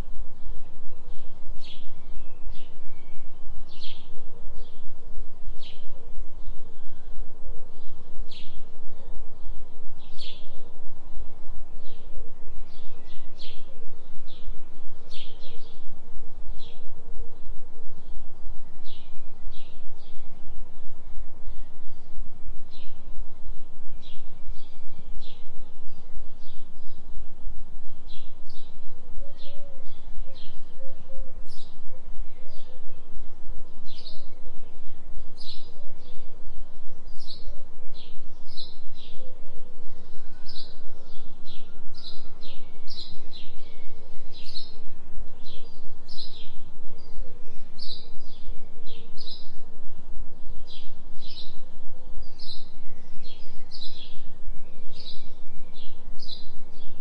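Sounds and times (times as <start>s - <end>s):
low pulsing hum: 0.0s - 57.0s
songbirds chirping: 0.0s - 57.0s.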